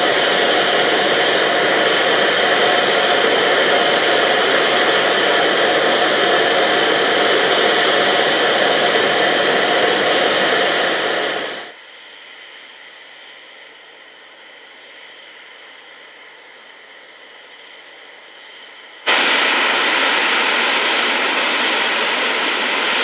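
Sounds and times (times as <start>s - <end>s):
steam rushing from locomotive: 0.0s - 23.0s.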